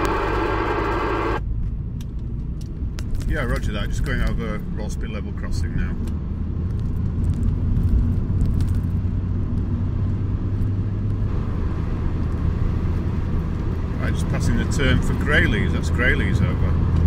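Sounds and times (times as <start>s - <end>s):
engine and road hum: 0.0s - 17.0s.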